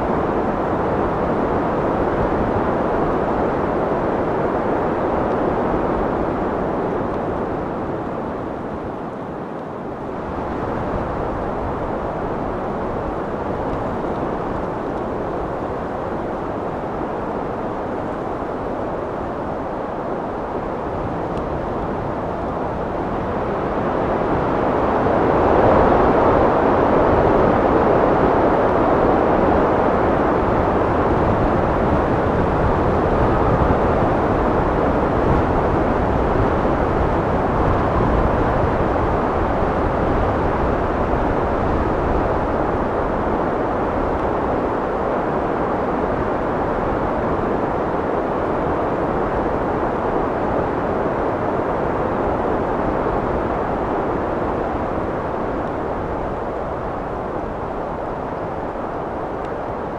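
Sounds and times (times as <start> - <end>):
wind rushing and gusting: 0.0 - 59.9.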